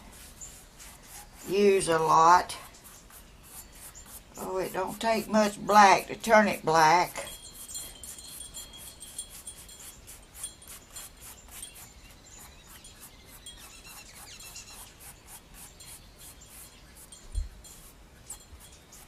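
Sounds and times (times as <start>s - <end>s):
paintbrush scrubbing on board: 0.0s - 19.0s.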